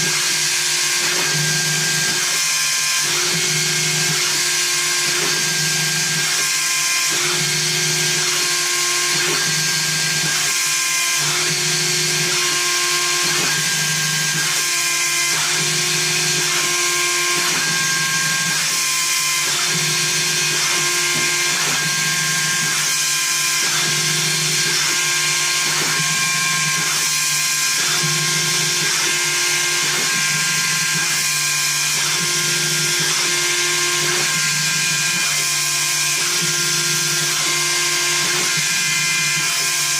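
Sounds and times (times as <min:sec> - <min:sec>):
spindle whine milling wood: 0:00.0 - 0:39.9.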